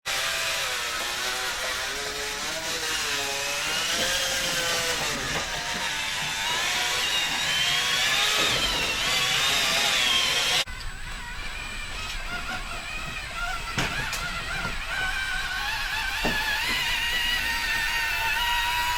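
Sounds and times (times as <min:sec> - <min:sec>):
small electric motors whining: 0:00.1 - 0:18.9.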